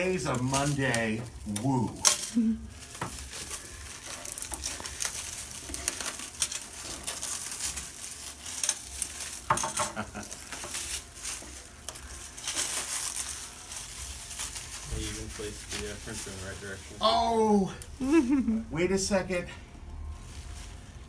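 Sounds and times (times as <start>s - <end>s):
plastic wrap crinkling: 0.0s - 18.7s, 19.8s - 21.0s.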